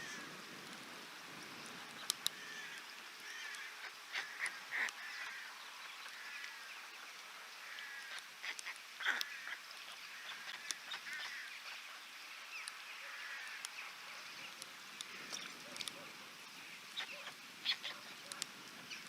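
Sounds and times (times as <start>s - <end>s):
birds calling: 1.4s - 19.0s.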